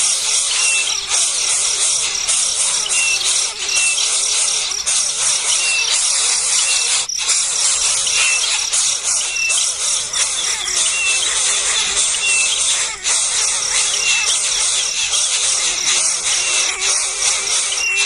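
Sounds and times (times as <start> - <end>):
baby birds chorus: 0.0 - 18.0.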